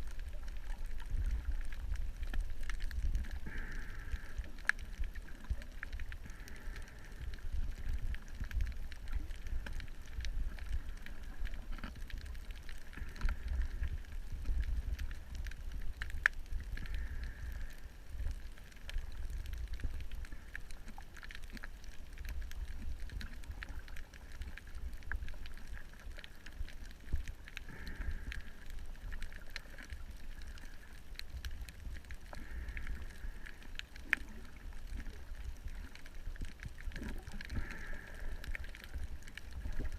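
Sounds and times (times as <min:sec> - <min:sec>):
faint clicks: 0:00.0 - 0:39.9
underwater low rumble: 0:00.0 - 0:39.9.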